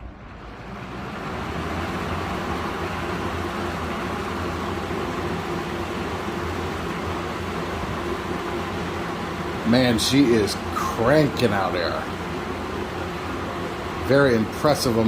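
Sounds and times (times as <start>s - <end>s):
box fan air rushing: 0.0s - 15.0s
fan motor hum: 0.0s - 15.0s.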